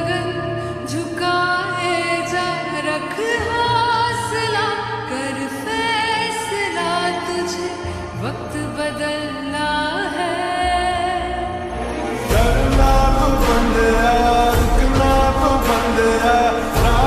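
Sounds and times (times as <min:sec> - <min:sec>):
song with sung vocals: 0:00.0 - 0:17.0.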